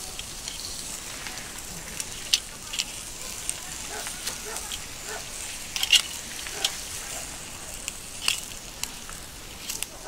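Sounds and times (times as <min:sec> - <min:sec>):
coals clicking and crackling: 0:00.0 - 0:10.0
fish sizzling on grill: 0:00.0 - 0:10.0.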